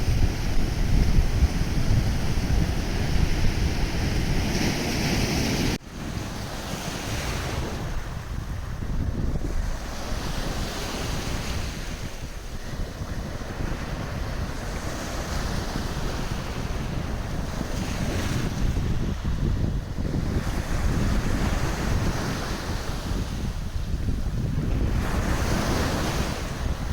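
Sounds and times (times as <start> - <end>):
waves washing onto shore: 0.0 - 26.9
wind rumbling on microphone: 0.0 - 26.9.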